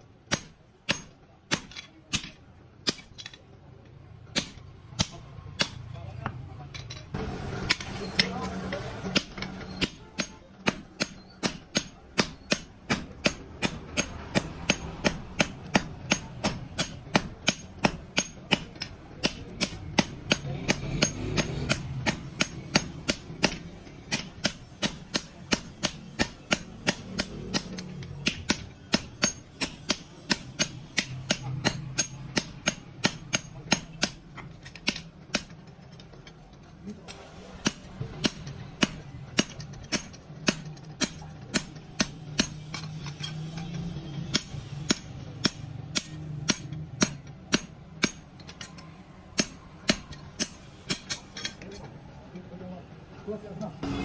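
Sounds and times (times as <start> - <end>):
hammer striking steel on anvil: 0.0 - 3.5, 4.3 - 36.1, 37.1 - 51.9.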